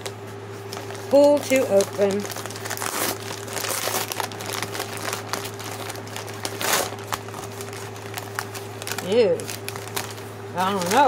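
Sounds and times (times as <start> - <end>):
steady low hum: 0.0 - 11.0
paper crinkling and rustling: 0.5 - 11.0.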